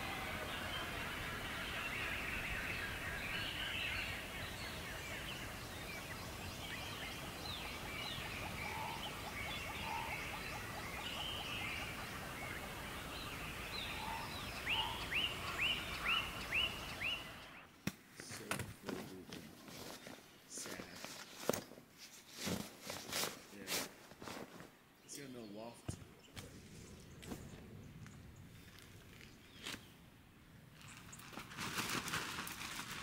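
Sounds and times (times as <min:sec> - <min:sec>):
wild birds singing: 0:00.0 - 0:17.8, 0:18.4 - 0:22.1, 0:23.6 - 0:33.0
background hiss: 0:00.0 - 0:33.0.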